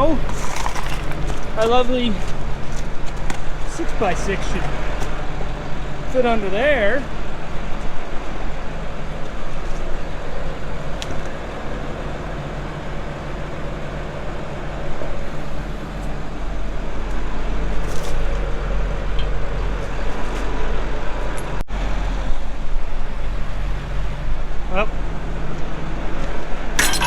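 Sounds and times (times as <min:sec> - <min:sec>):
farm vehicle engine running: 0:00.0 - 0:27.0.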